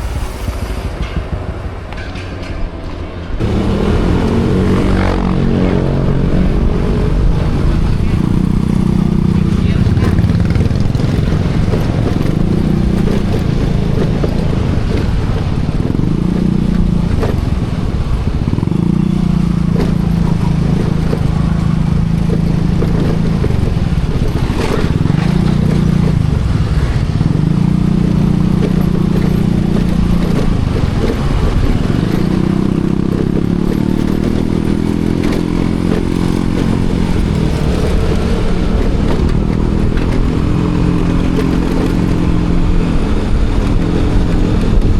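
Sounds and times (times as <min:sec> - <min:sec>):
wind and road noise: 0:00.0 - 0:44.9
small motorcycle engine: 0:03.4 - 0:44.9.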